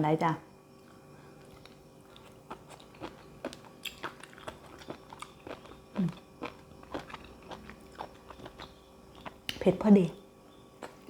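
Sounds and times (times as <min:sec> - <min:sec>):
person chewing crunchy food: 0:00.8 - 0:09.6, 0:10.5 - 0:11.0
closed-mouth hum: 0:00.8 - 0:11.0.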